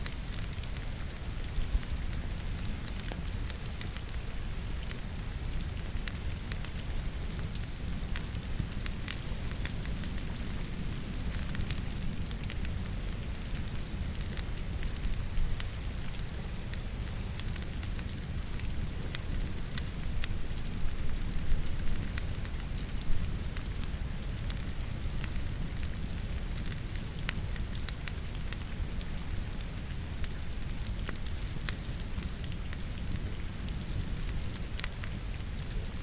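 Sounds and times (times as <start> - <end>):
steady rain: 0.0 - 36.0
wood fire crackling and popping: 0.0 - 36.0.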